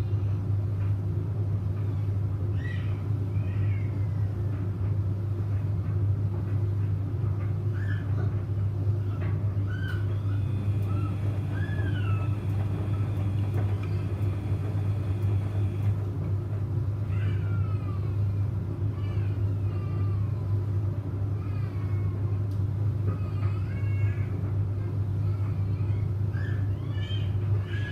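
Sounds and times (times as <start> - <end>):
washing machine humming: 0.1 - 26.3.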